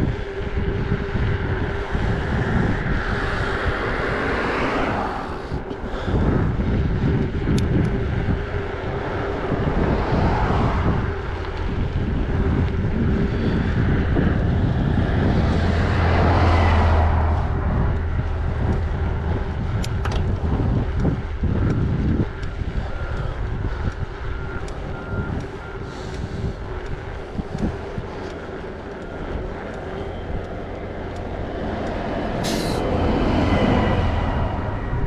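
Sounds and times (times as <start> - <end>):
bus engine rumble: 0.0 - 35.0
wind buffeting microphone: 0.0 - 35.0.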